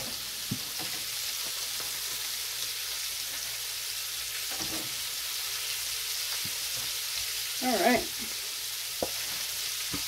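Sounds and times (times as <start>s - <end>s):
hot oil sizzling and bubbling: 0.0s - 10.0s.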